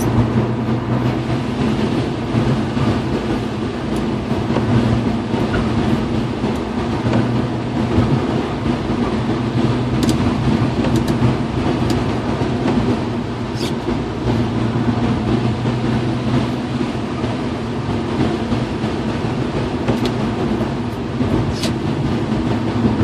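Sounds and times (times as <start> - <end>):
car engine drone: 0.0 - 23.0.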